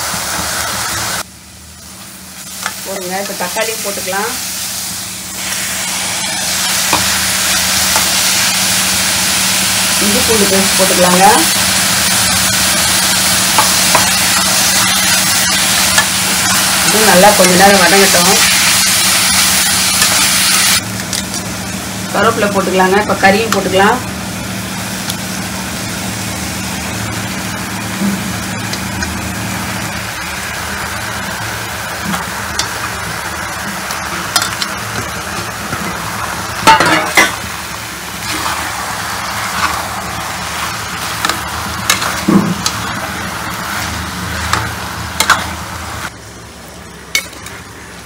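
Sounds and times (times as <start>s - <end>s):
food sizzling in a pot: 0.0s - 48.0s.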